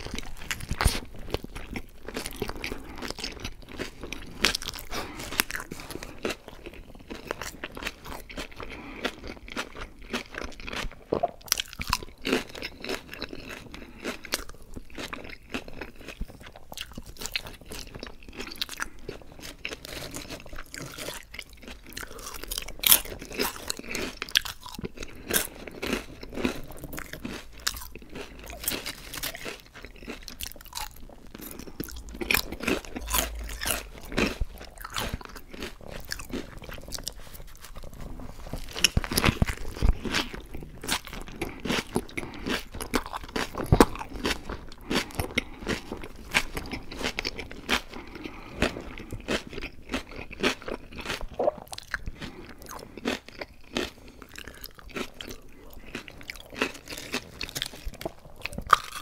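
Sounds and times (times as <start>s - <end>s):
crunching bites and chewing: 0.0s - 59.0s.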